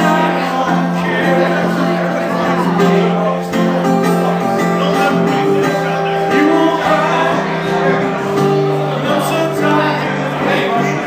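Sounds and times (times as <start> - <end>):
guitar playing: 0.0 - 11.0
man singing: 0.0 - 11.0.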